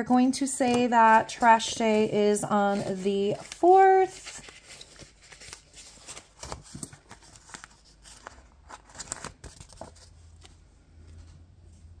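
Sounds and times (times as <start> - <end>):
sticker sheet crinkling: 0.2 - 10.6.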